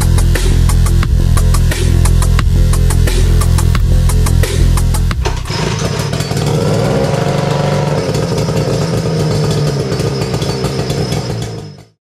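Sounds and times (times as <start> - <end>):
two-stroke outboard engine running fast: 0.0 - 12.0.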